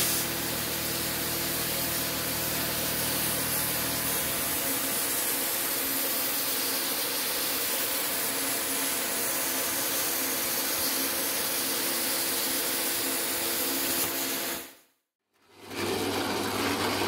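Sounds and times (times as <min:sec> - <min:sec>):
plasma arc hissing: 0:00.0 - 0:14.6.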